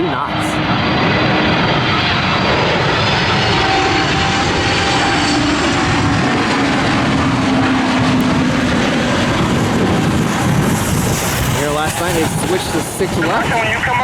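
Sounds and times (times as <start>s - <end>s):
jet airliner engines passing: 0.0s - 14.0s.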